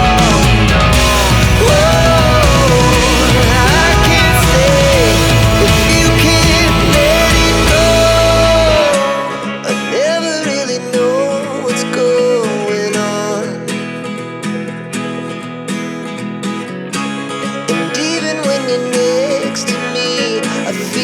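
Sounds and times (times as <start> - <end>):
guitar background music: 0.0 - 21.0.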